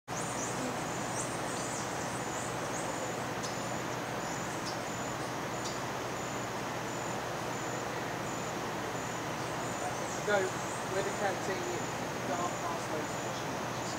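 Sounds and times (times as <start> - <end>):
insect buzz pulsing: 0.1 - 13.9
steady hiss: 0.1 - 13.9.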